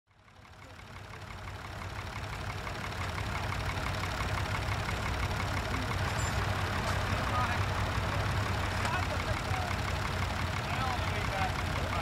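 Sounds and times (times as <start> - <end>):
tractor diesel engine running: 0.1 - 12.0.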